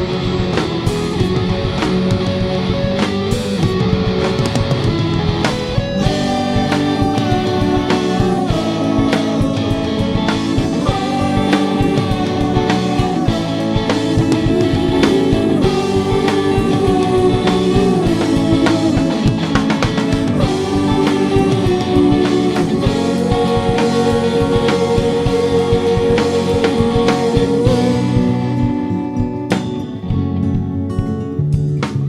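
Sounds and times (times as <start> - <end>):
rock band music: 0.0 - 32.0.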